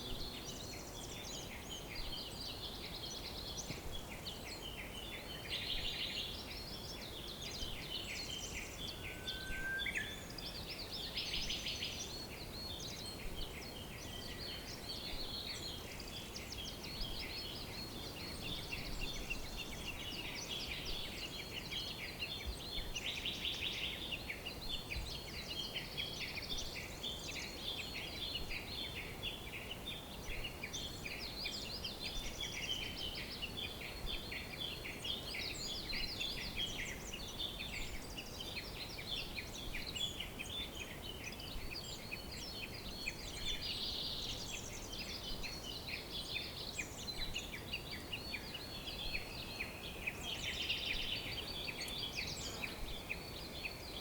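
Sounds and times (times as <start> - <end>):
faint steady hiss: 0.0 - 54.0
songbirds chirping and trilling: 0.0 - 54.0.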